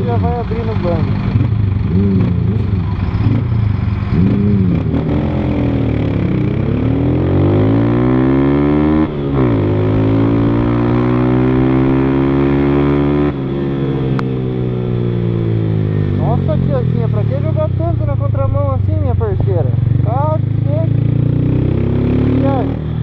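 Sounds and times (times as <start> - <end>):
motorcycle accelerating: 0.0 - 23.0.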